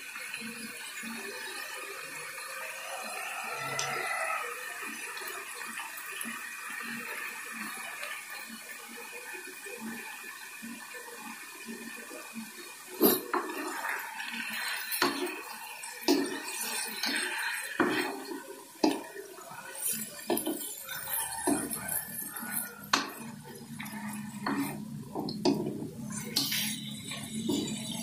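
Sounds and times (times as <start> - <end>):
meat sizzling in a wok: 0.0 - 25.1.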